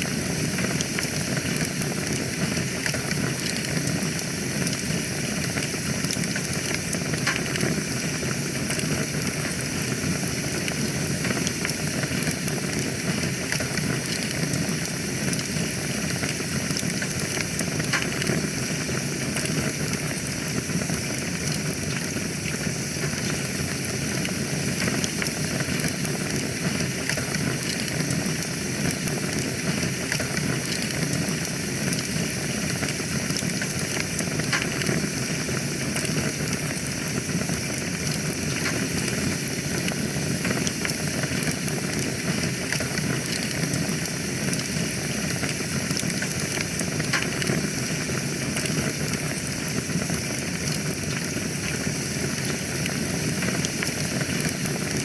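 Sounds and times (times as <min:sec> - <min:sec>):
wood fire burning and crackling: 0:00.0 - 0:55.0.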